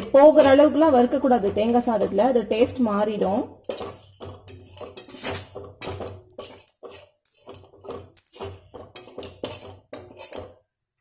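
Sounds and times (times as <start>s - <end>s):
spatula scraping in frying pan: 0.0s - 11.0s.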